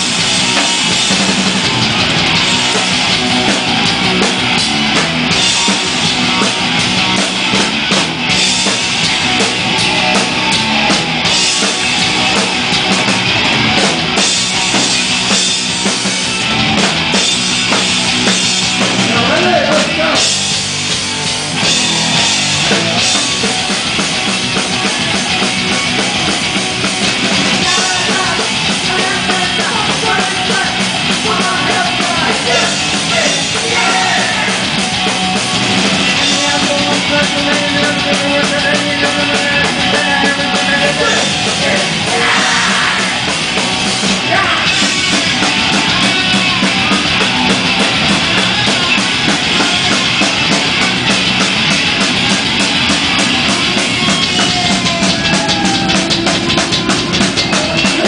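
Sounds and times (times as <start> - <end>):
electric guitars: 0.0 - 58.0
yelled vocals: 0.0 - 58.0.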